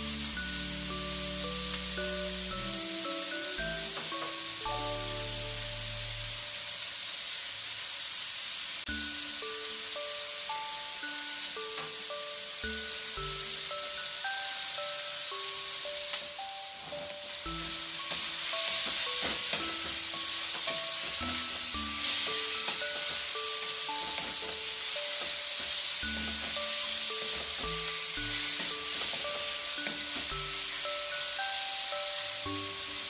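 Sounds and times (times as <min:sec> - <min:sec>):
light background music: 0:00.0 - 0:06.8, 0:08.9 - 0:33.0
pork sizzling in hot oil: 0:00.0 - 0:33.0.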